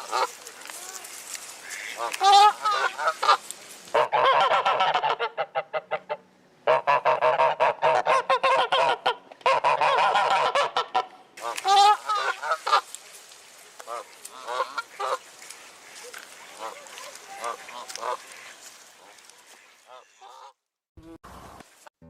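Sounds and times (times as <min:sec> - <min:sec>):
geese honking: 0:00.0 - 0:20.6.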